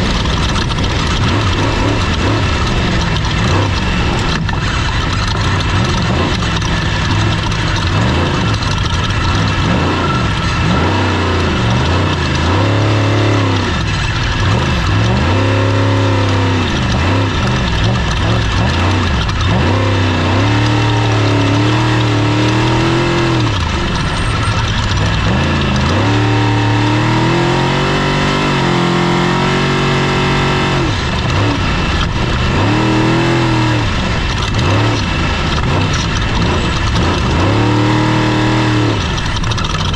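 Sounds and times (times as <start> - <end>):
constant noisy rush: 0.0 - 39.9
race vehicle engine revving: 0.0 - 39.9.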